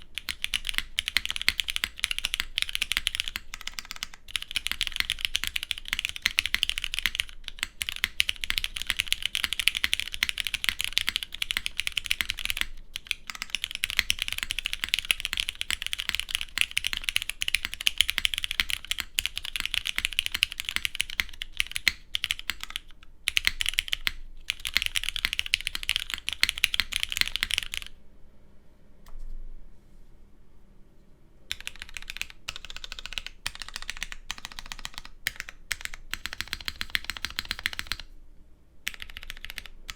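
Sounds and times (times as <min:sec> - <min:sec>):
mechanical keyboard typing: 0:00.0 - 0:28.0, 0:31.5 - 0:38.1, 0:38.8 - 0:39.9.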